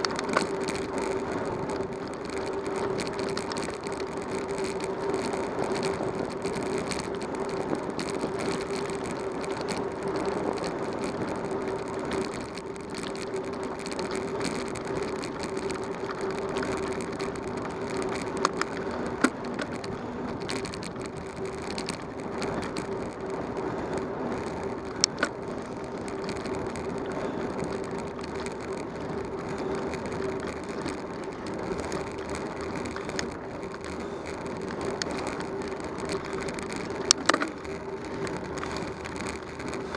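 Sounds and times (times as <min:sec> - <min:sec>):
bicycle tyres on pavement: 0:00.0 - 0:39.9
constant hum: 0:00.0 - 0:39.9
sharp clicks: 0:00.0 - 0:39.9.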